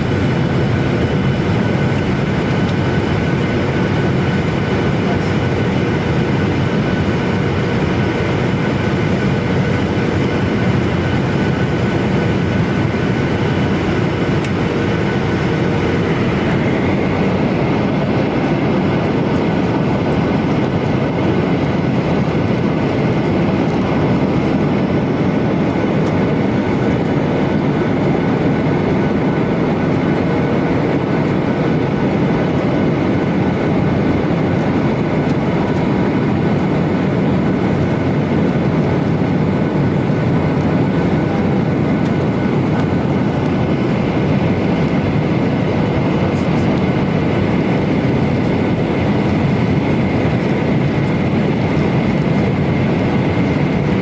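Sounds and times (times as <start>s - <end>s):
airliner cabin rumble: 0.0s - 54.0s
jet engine whine: 0.0s - 54.0s.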